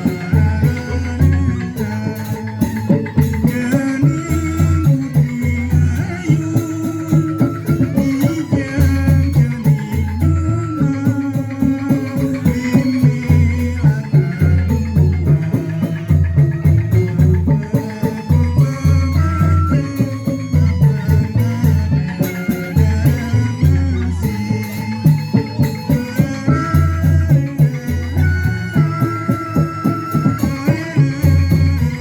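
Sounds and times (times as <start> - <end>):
high ticking percussion: 0.0 - 32.0.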